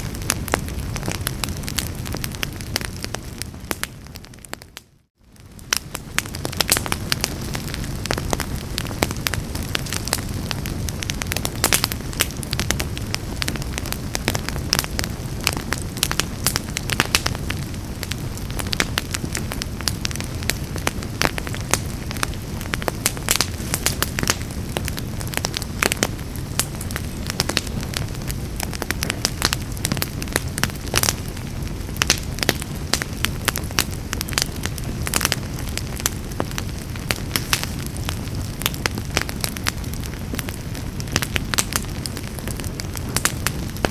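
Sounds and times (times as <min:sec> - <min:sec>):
low rumble of flames: 0:00.0 - 0:43.9
wood fire crackling and popping: 0:00.0 - 0:43.9.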